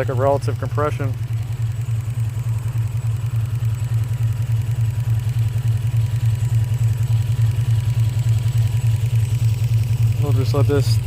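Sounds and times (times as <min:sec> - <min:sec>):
car engine rough idling: 0:00.0 - 0:11.0.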